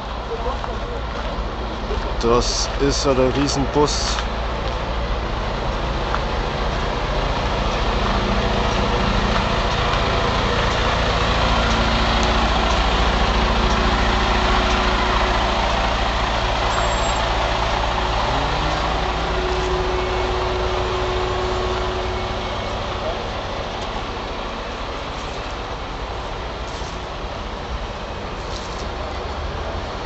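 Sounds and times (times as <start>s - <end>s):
bus engine humming: 0.0s - 30.0s.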